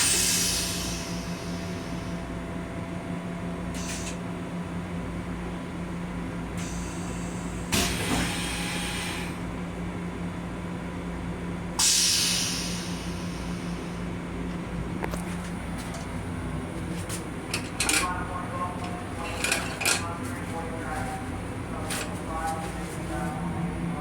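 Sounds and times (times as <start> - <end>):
train car hum: 0.0 - 24.0.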